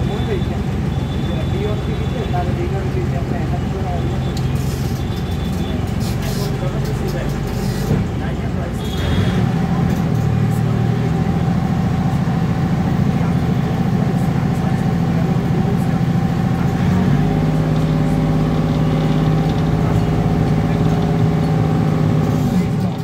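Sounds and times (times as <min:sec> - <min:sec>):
boat engine running: 0:00.0 - 0:23.0
deep engine rumble: 0:00.0 - 0:23.0.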